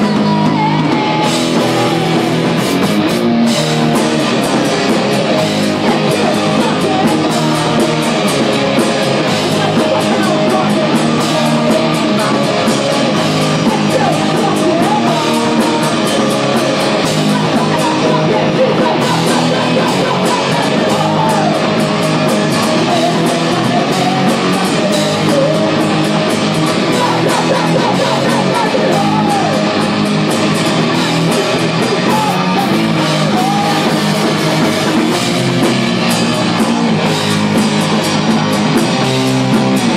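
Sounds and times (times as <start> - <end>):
live hard rock band: 0.0 - 39.9.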